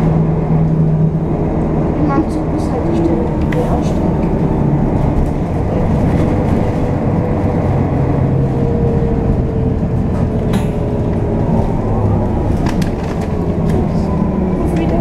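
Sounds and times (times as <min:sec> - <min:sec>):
bus engine drone: 0:00.0 - 0:15.0
road rumble: 0:00.0 - 0:15.0.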